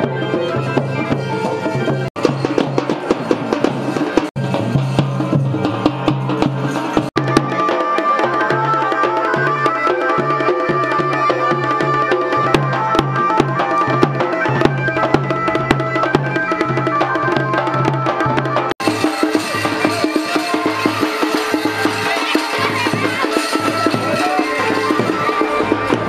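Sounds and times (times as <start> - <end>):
music with busy drum beat: 0.0 - 26.0.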